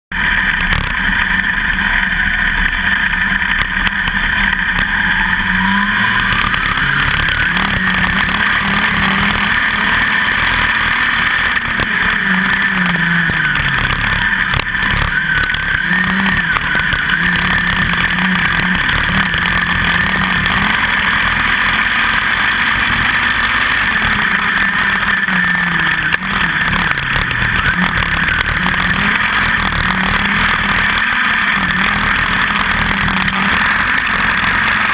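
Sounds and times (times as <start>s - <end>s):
race car engine revving: 0.1s - 34.9s.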